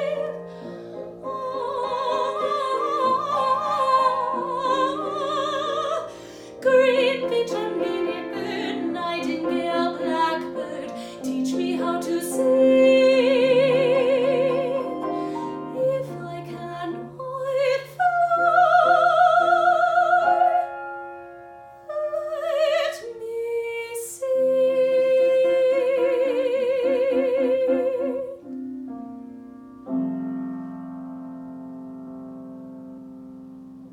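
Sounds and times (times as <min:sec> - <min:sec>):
soprano singing: 0:00.0 - 0:28.7
piano accompaniment: 0:00.0 - 0:33.9.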